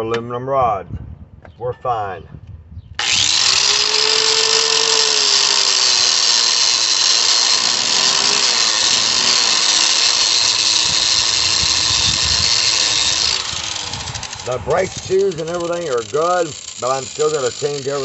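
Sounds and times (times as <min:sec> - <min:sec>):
wire wheel grinding metal: 0:03.0 - 0:18.0.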